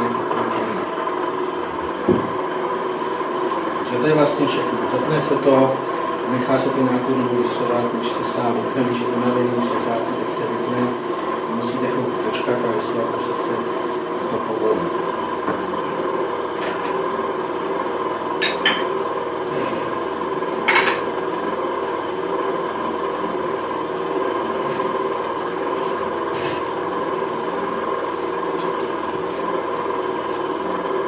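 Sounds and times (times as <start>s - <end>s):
oil press motor hum and whine: 0.0s - 31.0s.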